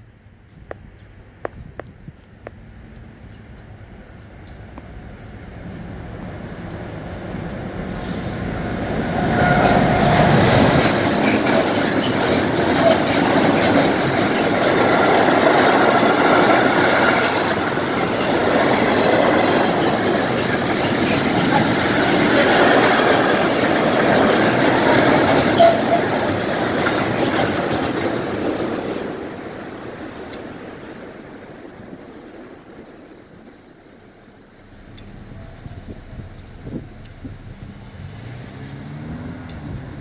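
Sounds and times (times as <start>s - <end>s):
train wheels rolling on rails: 1.4s - 40.0s.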